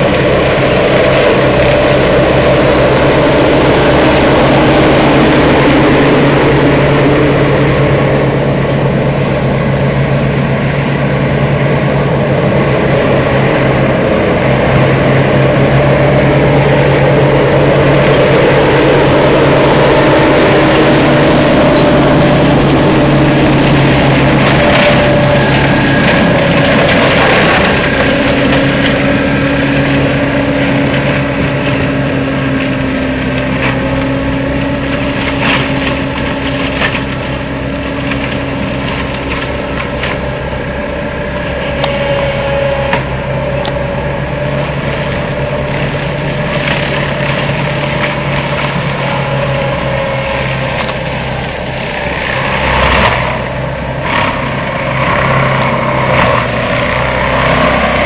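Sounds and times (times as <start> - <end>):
diesel engine running under load: 0.0 - 58.0
forestry mulcher working: 0.0 - 58.0.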